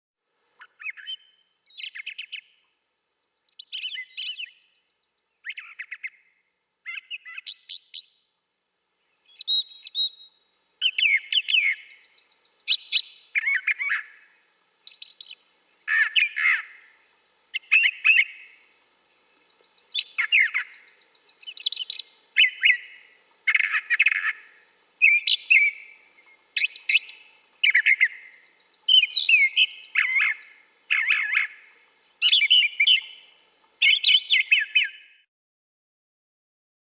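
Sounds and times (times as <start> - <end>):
bird singing varied phrases: 0.6 - 8.3, 9.0 - 35.3.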